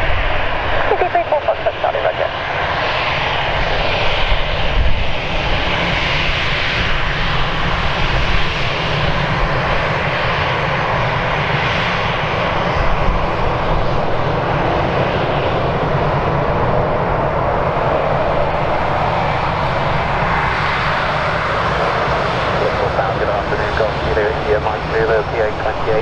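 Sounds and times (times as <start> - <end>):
aircraft engine noise: 0.0 - 26.0.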